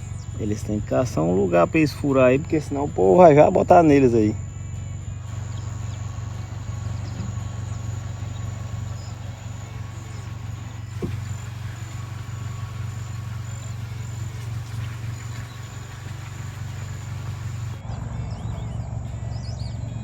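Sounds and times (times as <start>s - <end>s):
insects whining: 0.0s - 20.0s
steady low hum: 0.0s - 20.0s.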